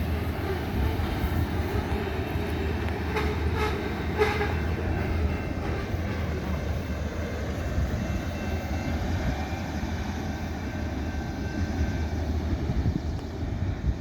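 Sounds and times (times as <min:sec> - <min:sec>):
freight train rumbling on rails: 0:00.0 - 0:14.0.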